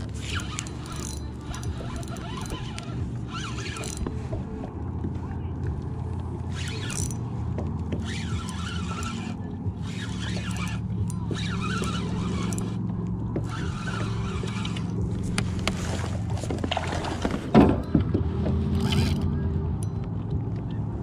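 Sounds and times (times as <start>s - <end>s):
low motor hum: 0.0s - 21.0s.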